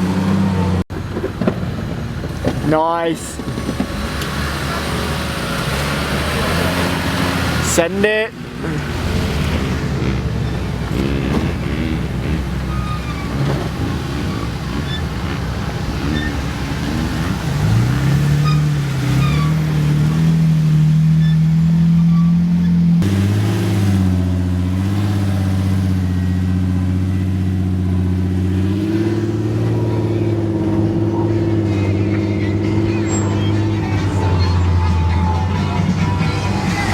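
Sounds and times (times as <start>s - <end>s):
off-road vehicle engine under load: 0.0s - 36.9s.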